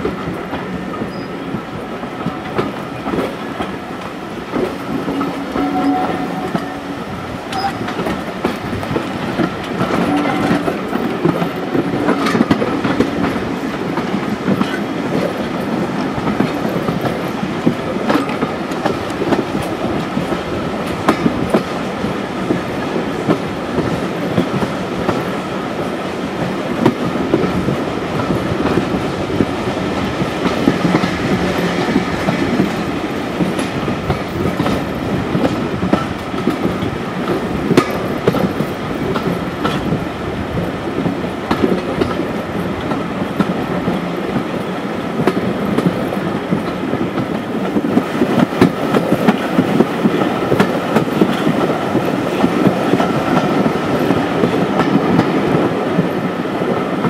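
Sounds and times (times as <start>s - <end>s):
wheels rumbling on rail: 0.0s - 57.0s
wheels clicking over rail joints: 7.3s - 57.0s.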